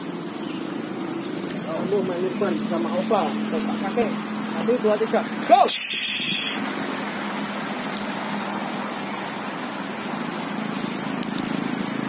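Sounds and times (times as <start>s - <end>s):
city traffic hiss and hum: 0.0s - 12.0s.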